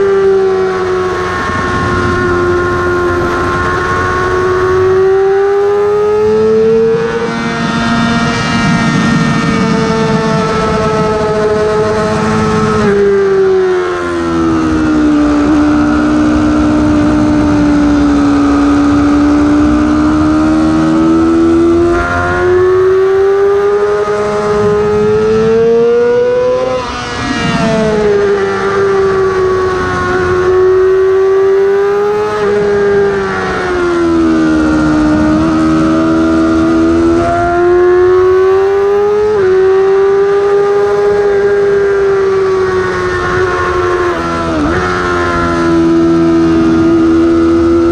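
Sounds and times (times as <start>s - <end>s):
motorcycle engine at high revs: 0.0s - 47.9s.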